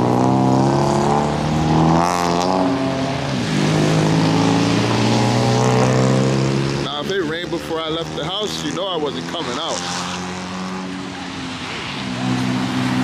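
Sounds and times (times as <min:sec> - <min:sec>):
car engines passing: 0:00.0 - 0:13.0.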